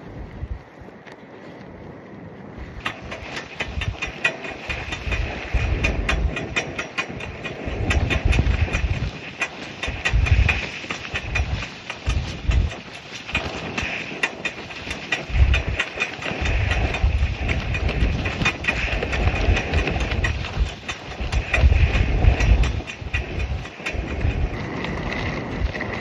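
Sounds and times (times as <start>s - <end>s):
fabric flapping in wind: 0.0s - 26.0s
wind buffeting microphone: 0.0s - 26.0s.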